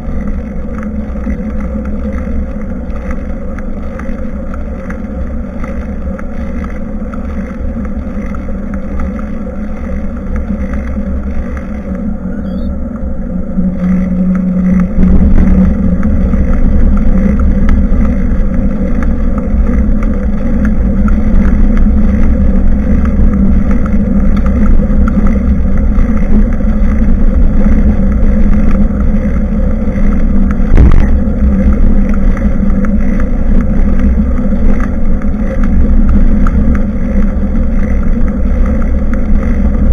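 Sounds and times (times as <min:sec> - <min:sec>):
bicycle and road rumble: 0:00.0 - 0:39.9
wind buffeting microphone: 0:00.0 - 0:39.9.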